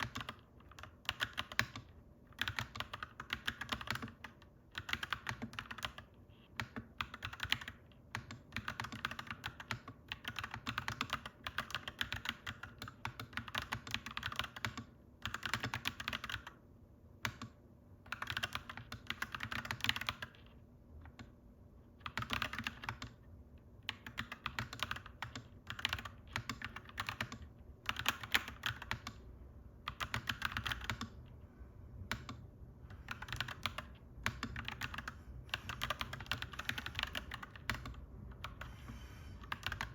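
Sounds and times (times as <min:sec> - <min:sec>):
typing on mechanical keyboard: 0:00.0 - 0:16.6, 0:17.2 - 0:31.3, 0:32.1 - 0:38.7, 0:39.4 - 0:39.9.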